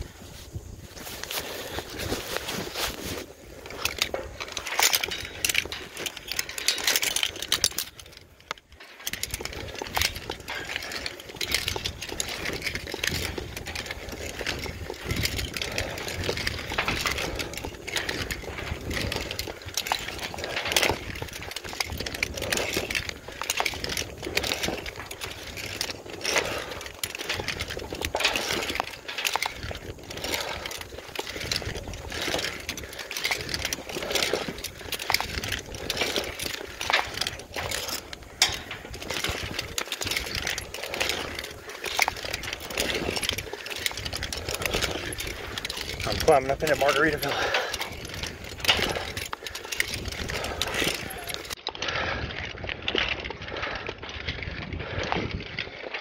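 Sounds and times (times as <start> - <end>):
metal climbing gear clinking: 0.0 - 56.0.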